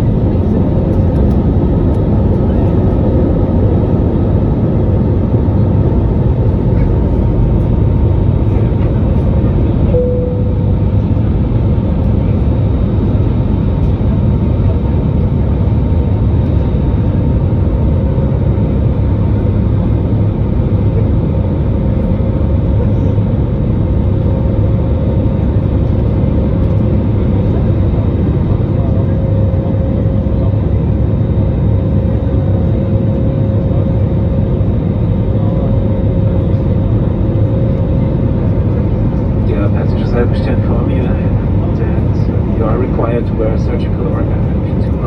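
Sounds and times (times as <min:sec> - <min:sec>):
aircraft engine rumble in cabin: 0:00.0 - 0:45.0.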